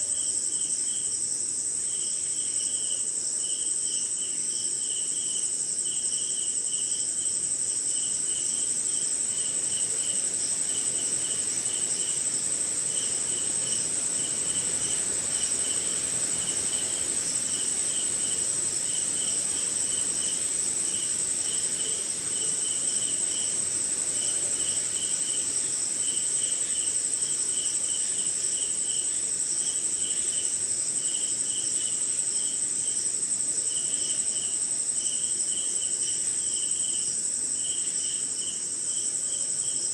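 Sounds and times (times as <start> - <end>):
cricket chirping: 0.0 - 39.9
faint hiss: 0.0 - 39.9
high insect trill: 0.0 - 39.9.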